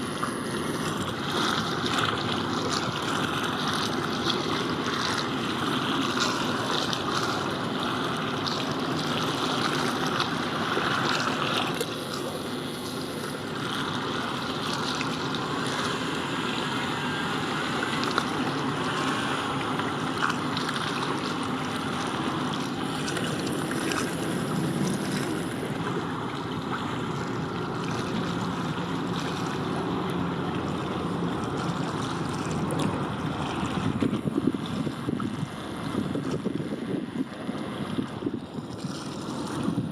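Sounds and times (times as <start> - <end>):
rushing water: 0.0 - 39.9
wind: 0.0 - 39.9.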